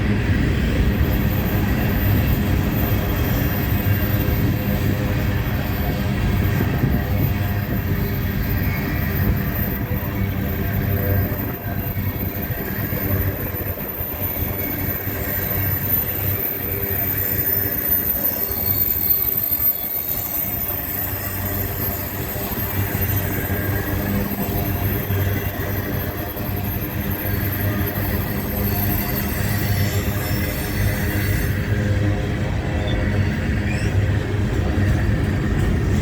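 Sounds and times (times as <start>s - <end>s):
freight train wheels on rails: 0.0s - 36.0s.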